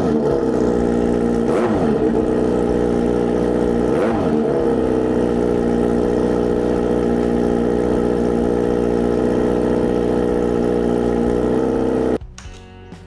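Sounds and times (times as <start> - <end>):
motorcycle engine idling: 0.0 - 12.3.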